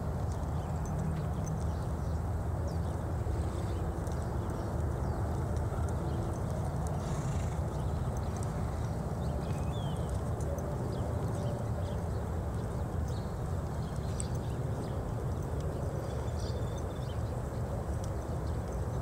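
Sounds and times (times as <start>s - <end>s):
horse hooves trotting on dirt: 0.0s - 19.0s.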